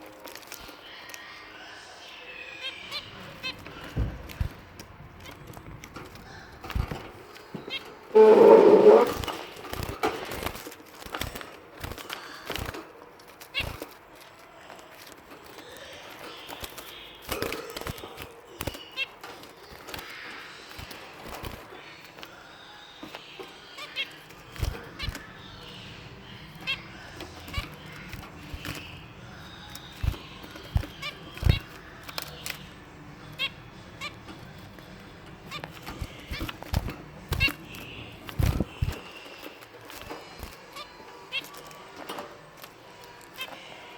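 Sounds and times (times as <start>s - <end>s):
finch chirp: 0.0s - 10.0s, 15.4s - 42.2s.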